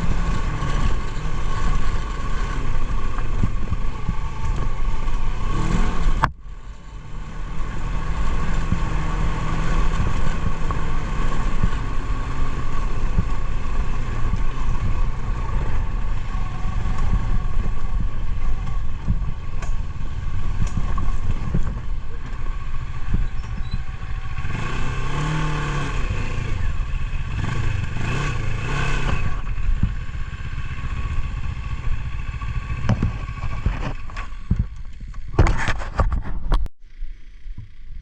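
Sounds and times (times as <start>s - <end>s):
motorcycle engine running: 0.0s - 38.0s
road rumble: 0.0s - 38.0s.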